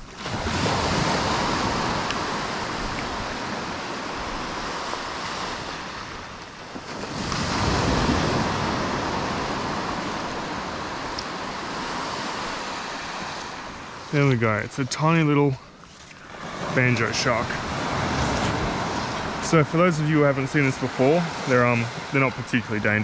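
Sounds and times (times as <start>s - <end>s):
waves washing up a beach: 0.0s - 23.0s.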